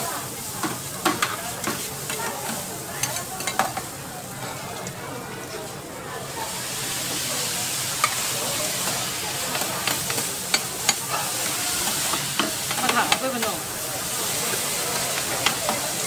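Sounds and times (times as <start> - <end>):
noodles sizzling on griddle: 0.0 - 16.0.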